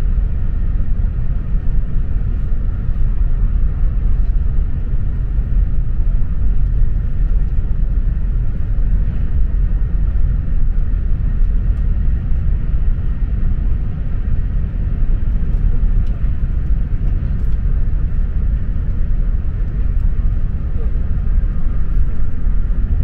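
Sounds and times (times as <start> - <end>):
train low rumble: 0.0 - 23.0.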